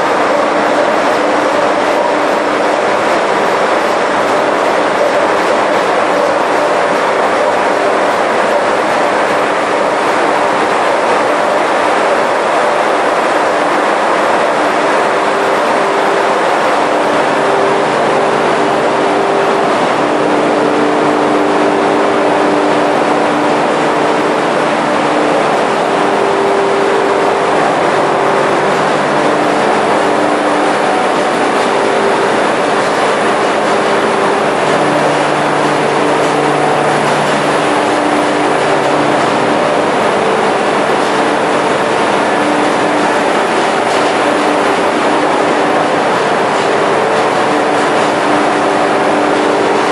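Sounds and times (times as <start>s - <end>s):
engine room machinery noise: 0.0s - 49.9s
steady hums: 0.0s - 49.9s.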